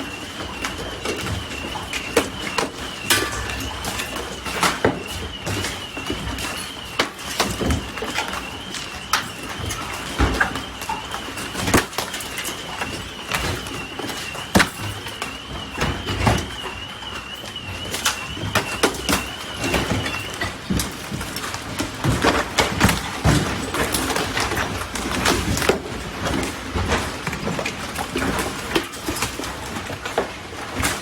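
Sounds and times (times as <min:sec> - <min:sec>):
hailstones striking cars: 0:00.0 - 0:31.0.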